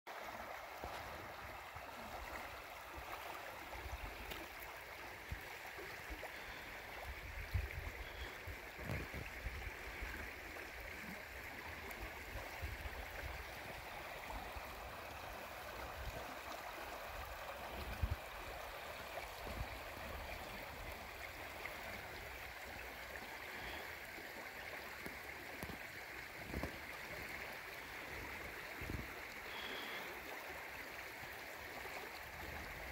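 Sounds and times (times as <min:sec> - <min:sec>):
river water rushing and gurgling: 0:00.1 - 0:32.9.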